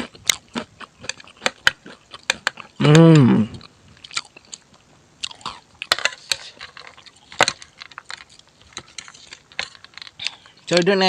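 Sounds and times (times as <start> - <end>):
chewing and biting food: 0.0 - 10.6.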